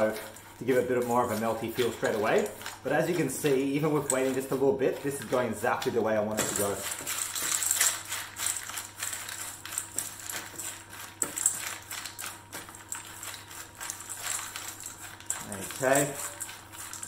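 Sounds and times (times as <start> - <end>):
chickpeas rattling in metal bowl: 0.0 - 17.0.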